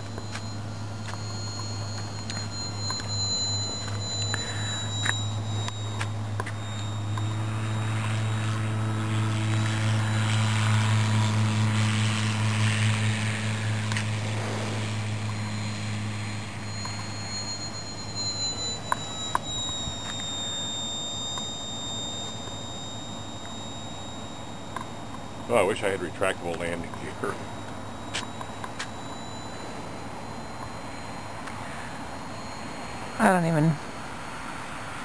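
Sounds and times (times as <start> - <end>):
model plane motor whine: 0.0 - 35.0
steady low hum: 0.0 - 35.0.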